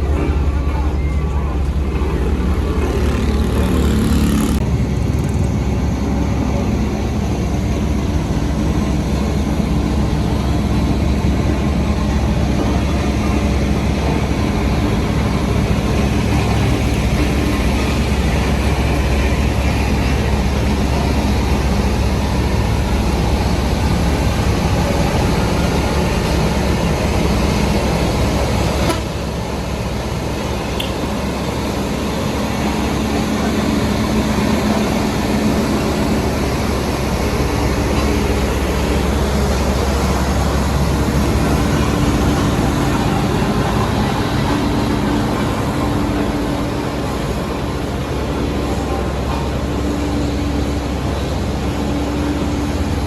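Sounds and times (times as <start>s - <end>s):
diesel construction machinery running: 0.0s - 53.0s.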